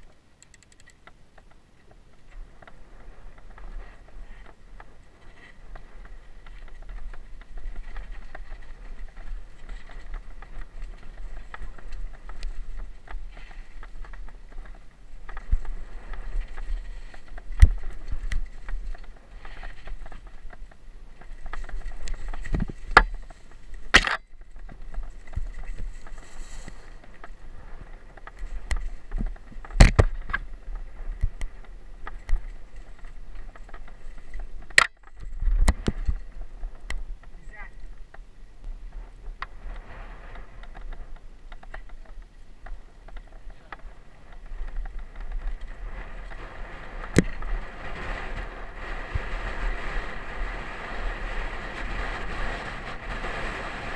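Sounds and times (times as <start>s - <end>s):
bike tyres rumbling and rattling: 0.0s - 53.9s
bike knocking on bumps: 1.0s - 53.9s
wind buffeting: 1.0s - 53.9s.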